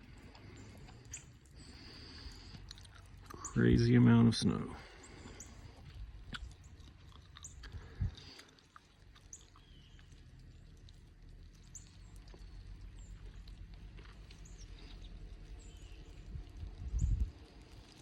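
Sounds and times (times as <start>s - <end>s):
steady low rumble: 0.0s - 8.4s, 9.1s - 18.0s.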